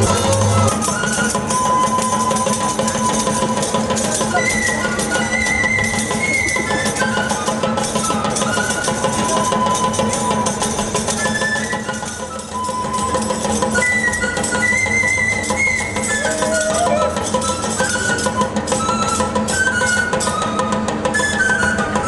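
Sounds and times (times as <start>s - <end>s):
high piping melody: 0.0s - 22.0s
steady drumming: 0.0s - 22.0s.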